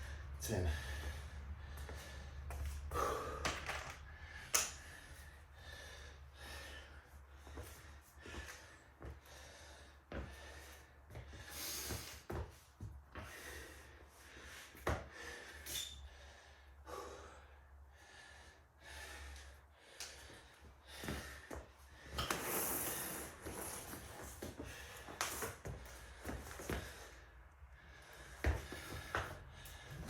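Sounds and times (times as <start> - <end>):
man breathing hard and gasping: 0.0 - 30.0.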